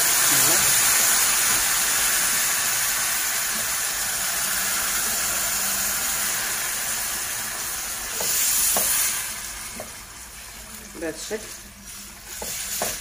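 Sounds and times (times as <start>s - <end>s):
meat and onions sizzling: 0.0s - 13.0s.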